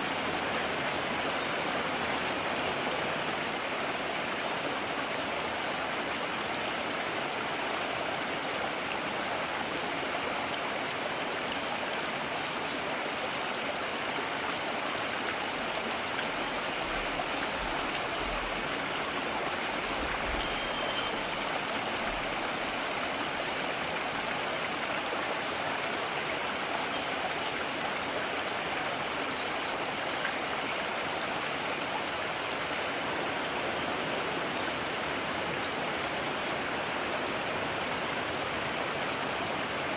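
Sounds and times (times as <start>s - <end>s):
mountain stream running: 0.0s - 39.9s.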